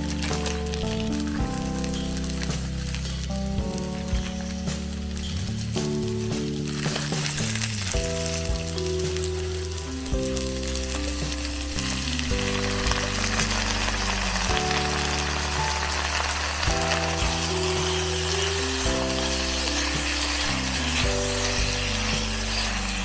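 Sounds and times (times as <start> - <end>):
food sizzling in a wok: 0.0 - 23.0
soft background music: 0.0 - 23.0.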